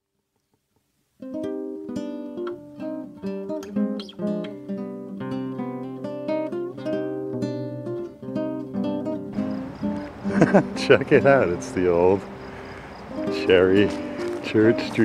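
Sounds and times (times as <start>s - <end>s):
acoustic guitar music: 1.2s - 15.0s.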